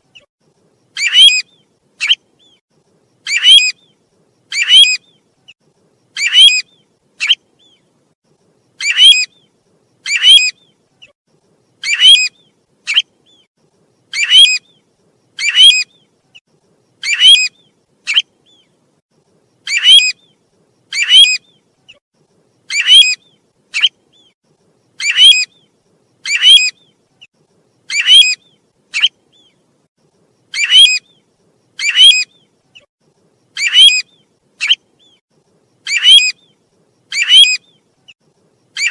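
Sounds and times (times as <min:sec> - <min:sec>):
looped bird calls: 0:00.0 - 0:07.9, 0:08.6 - 0:18.8, 0:19.5 - 0:22.0, 0:22.6 - 0:29.7, 0:30.4 - 0:35.2, 0:35.8 - 0:38.9.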